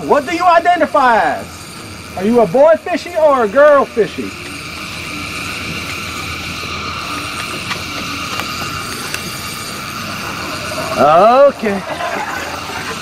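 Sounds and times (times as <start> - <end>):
mechanical whirr: 0.0 - 13.0.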